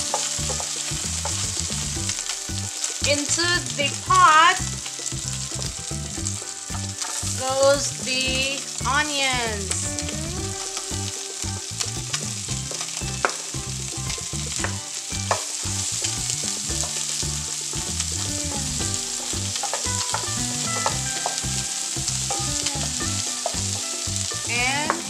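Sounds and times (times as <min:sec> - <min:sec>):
onion sizzling in pan: 0:00.0 - 0:25.0.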